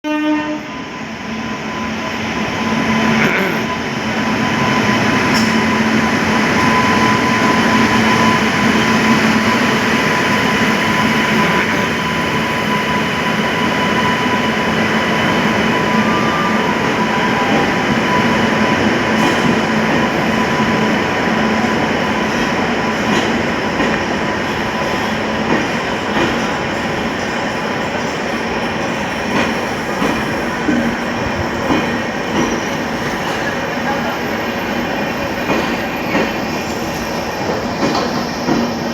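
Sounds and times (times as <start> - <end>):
train wheels rumbling: 0.7 - 38.9.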